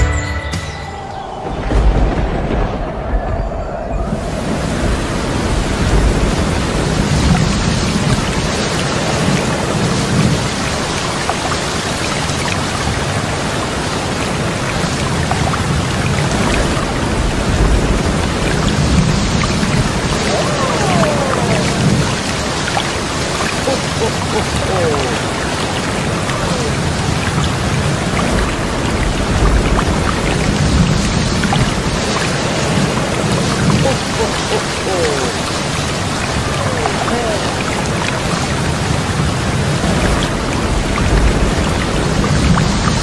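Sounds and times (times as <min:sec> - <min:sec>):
thunder rumbling: 0:00.8 - 0:10.5, 0:14.3 - 0:43.0
steady rain: 0:01.1 - 0:43.0.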